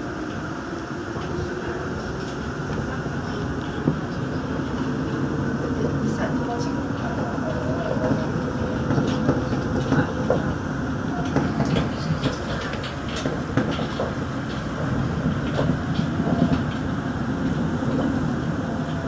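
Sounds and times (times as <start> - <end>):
monorail car rumble: 0.0 - 19.0.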